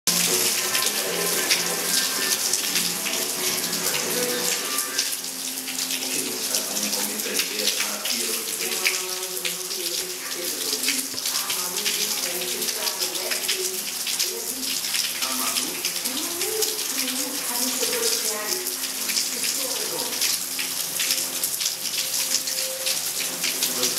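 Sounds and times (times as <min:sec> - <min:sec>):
heavy rain pouring: 0:00.1 - 0:23.9.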